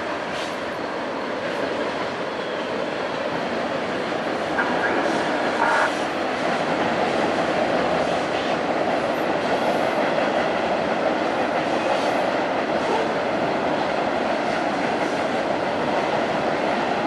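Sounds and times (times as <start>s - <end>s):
freight train rolling over bridge: 0.0s - 17.0s.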